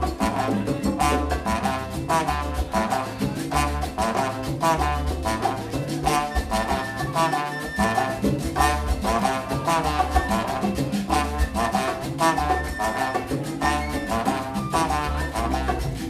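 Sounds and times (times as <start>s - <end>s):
bass: 0.0s - 16.0s
keyboard: 0.0s - 16.0s
latin percussion: 0.0s - 16.0s
brass horn phrases: 0.1s - 16.0s.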